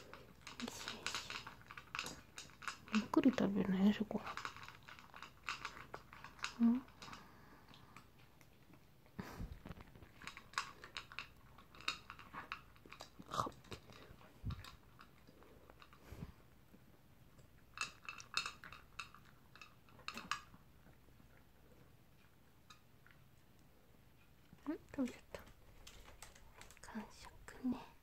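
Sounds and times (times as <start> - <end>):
dog crunching and chewing food: 0.0 - 23.6, 24.2 - 27.2.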